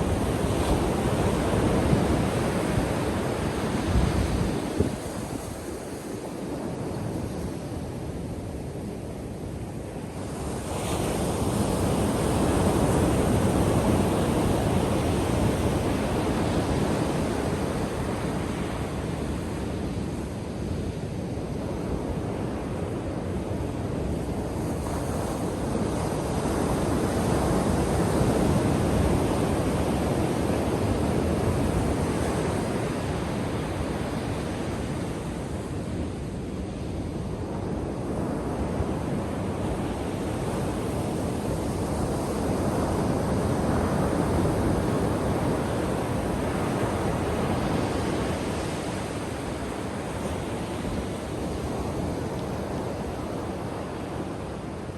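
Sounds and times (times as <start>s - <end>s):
waves breaking on a beach: 0.0s - 54.9s.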